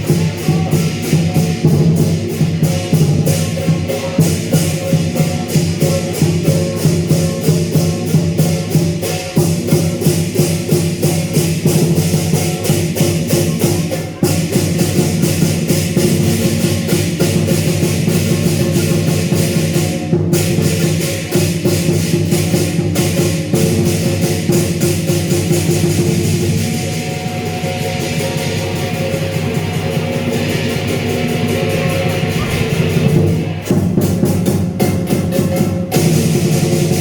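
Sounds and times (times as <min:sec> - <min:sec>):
big drum beating: 0:00.0 - 0:37.0
cymbals clashing: 0:00.0 - 0:37.0.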